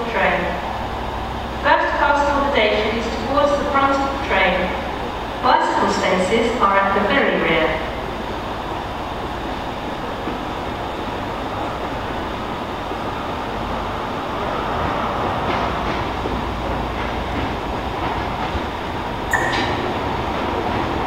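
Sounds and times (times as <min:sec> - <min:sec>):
diesel train rumble: 0:00.0 - 0:21.0.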